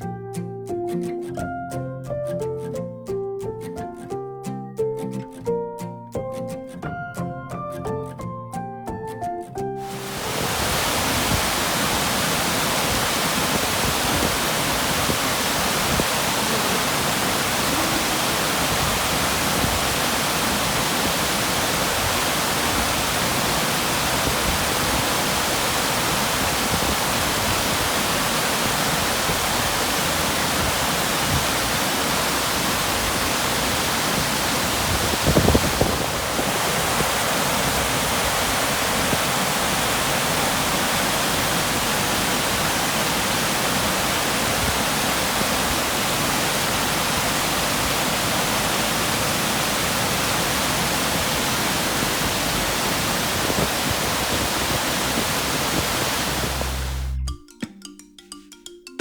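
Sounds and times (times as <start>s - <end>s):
waterfall rushing: 9.8s - 57.2s.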